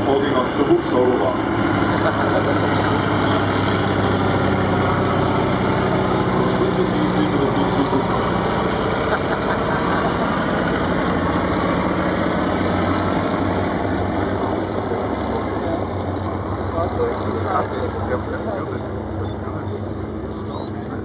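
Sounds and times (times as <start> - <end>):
aircraft piston engine droning: 0.0 - 21.0.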